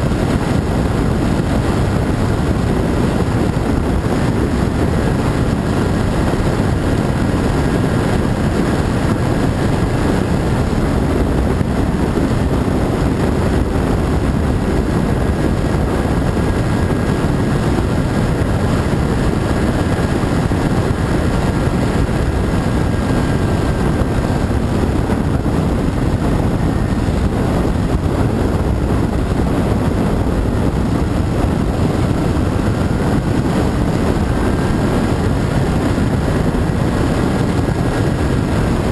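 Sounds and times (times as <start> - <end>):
low rushing noise: 0.0 - 38.9.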